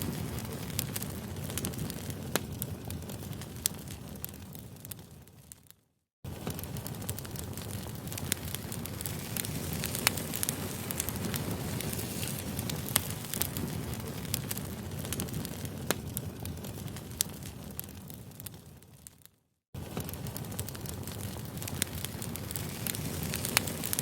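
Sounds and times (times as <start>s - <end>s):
campfire flames rushing: 0.0s - 5.6s, 6.3s - 19.1s, 19.8s - 24.0s
fire crackles and pops: 0.0s - 24.0s.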